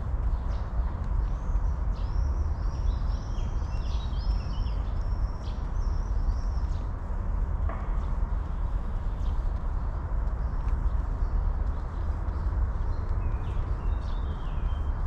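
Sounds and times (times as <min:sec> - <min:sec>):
songbirds chirping: 0:00.0 - 0:15.0
steady low rumble: 0:00.0 - 0:15.0.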